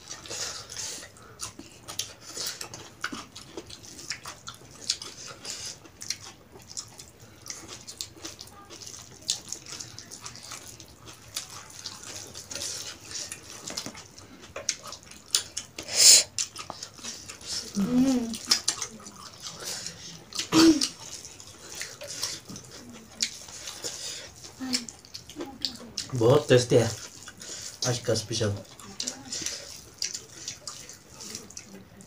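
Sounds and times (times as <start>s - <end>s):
wet chewing and lip-smacking: 0.0s - 32.0s.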